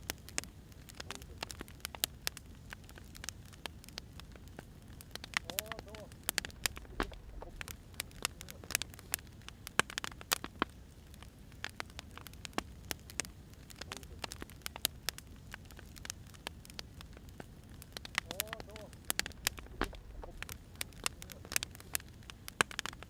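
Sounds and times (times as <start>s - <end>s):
fire hissing: 0.0s - 23.0s
firewood popping and snapping: 0.0s - 23.0s.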